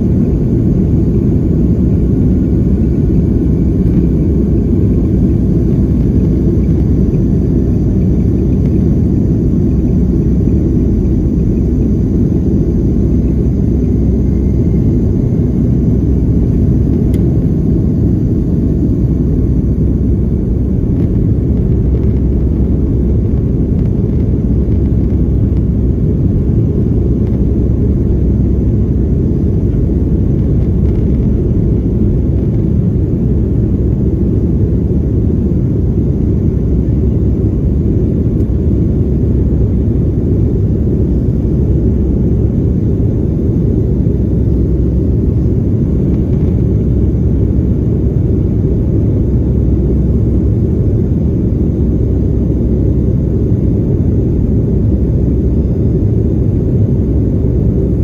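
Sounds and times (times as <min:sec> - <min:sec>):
jet engine rumble and rushing air: 0:00.0 - 0:58.0.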